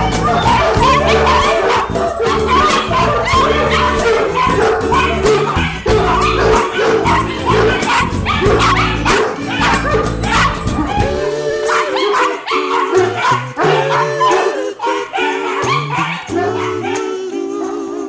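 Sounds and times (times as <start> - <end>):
instrumental band song: 0.0 - 16.8
dogs barking and yelping: 0.0 - 18.0.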